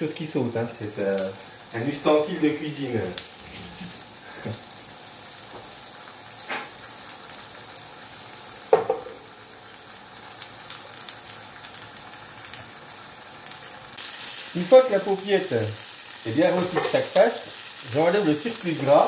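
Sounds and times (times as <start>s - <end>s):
oil sizzling in frying pan: 0.0s - 19.0s.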